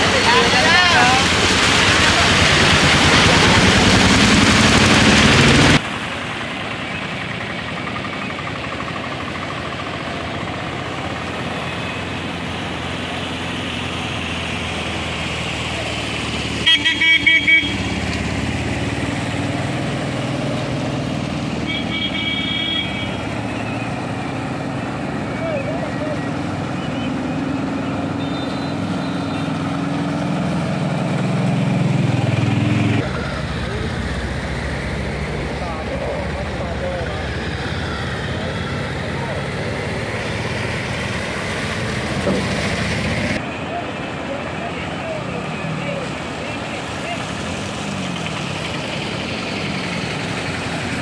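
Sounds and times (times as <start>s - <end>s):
autorickshaw engine running: 0.0s - 51.0s
distant vehicle engines: 0.0s - 51.0s
rushing flood water: 0.0s - 51.0s
water splashing: 0.0s - 51.0s.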